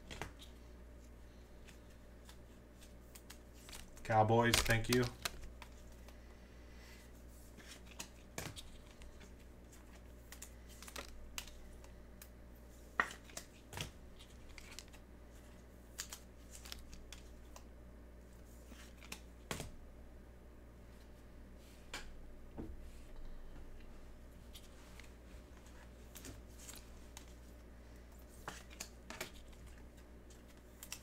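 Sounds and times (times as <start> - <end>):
cards being handled: 0.0 - 6.3, 7.2 - 17.7, 18.3 - 19.7, 24.4 - 31.0.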